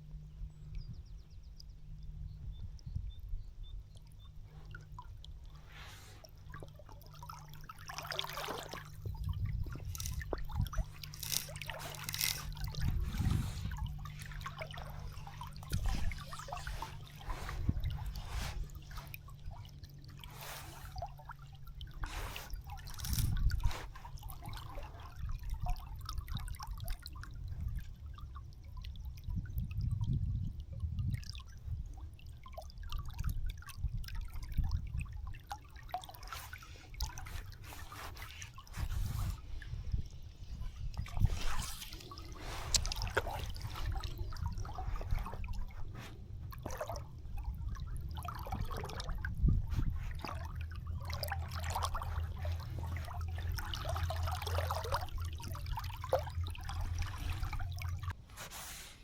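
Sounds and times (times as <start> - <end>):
river water trickling: 0.0 - 59.0
water splashes: 4.0 - 59.0.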